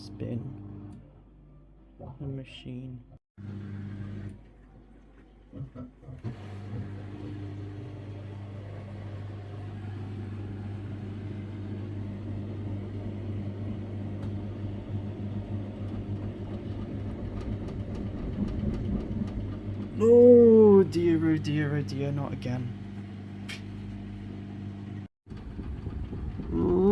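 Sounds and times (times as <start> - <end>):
washing machine motor hum: 3.4 - 26.9.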